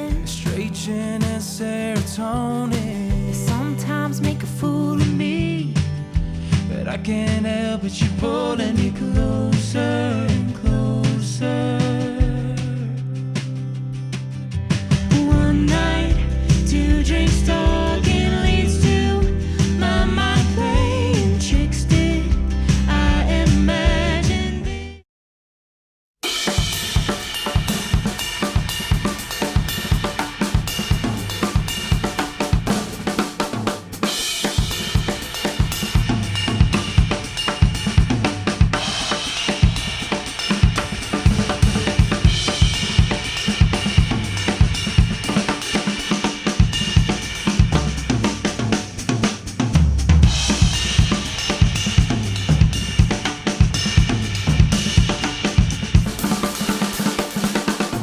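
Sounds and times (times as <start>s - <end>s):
instrumental music with drum kit: 0.0s - 24.8s, 26.2s - 58.0s.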